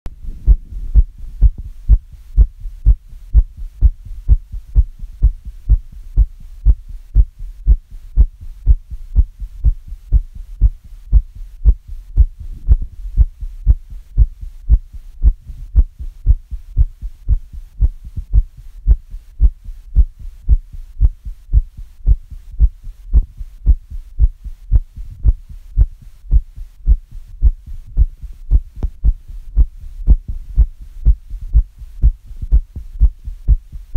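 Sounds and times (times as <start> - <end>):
heartbeat thumps: 0.1 - 33.9.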